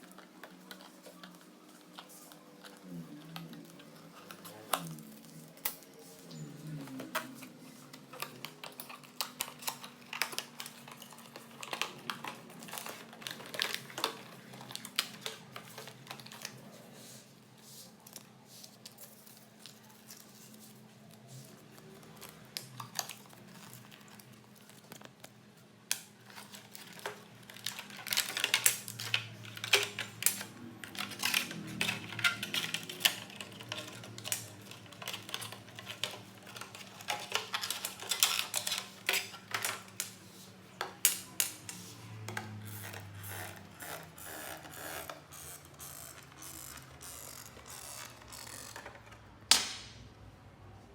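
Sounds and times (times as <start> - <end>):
plastic packaging crinkling: 0.0 - 17.0, 17.8 - 44.0.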